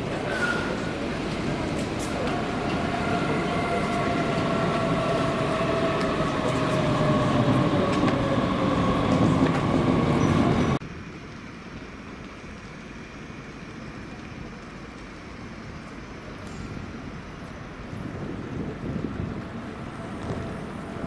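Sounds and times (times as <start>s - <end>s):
electric train whine: 0.0s - 21.0s.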